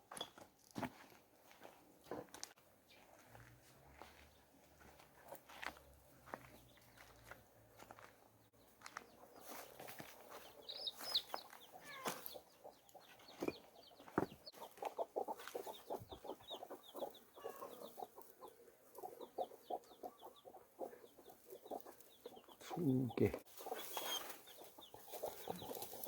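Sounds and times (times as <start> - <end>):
birds chirping: 4.0 - 26.0.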